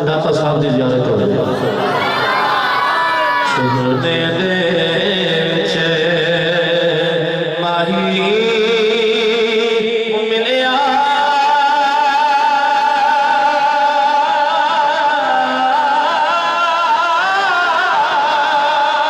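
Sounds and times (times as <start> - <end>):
man singing a long vibrato note: 3.5 - 19.0.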